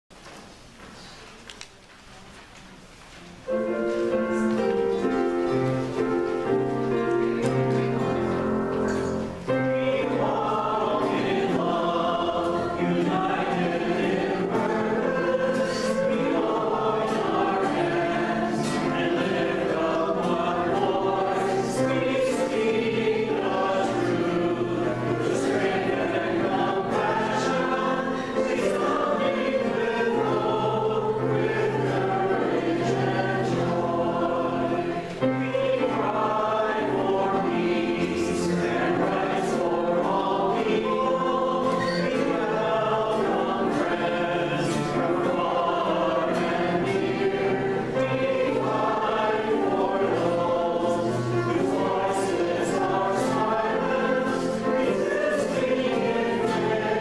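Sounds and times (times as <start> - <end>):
piano: 0.1 - 57.0
choir singing worship song: 3.5 - 57.0.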